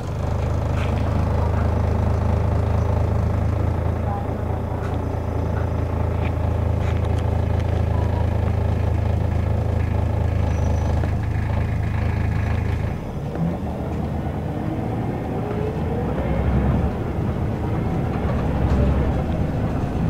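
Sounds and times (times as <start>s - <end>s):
bus engine drone: 0.0s - 20.0s
road noise: 0.0s - 20.0s.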